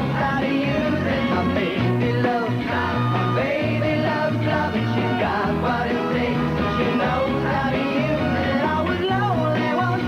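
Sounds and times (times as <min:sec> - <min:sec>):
sixties-style pop song with band: 0:00.0 - 0:10.0.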